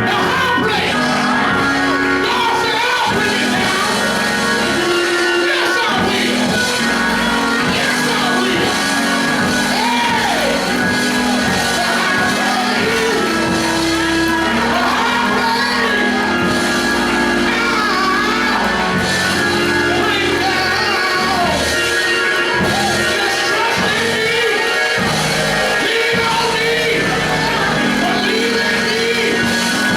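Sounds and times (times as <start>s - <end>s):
sustained keyboard chords: 0.0s - 29.9s
voices singing: 0.0s - 29.9s.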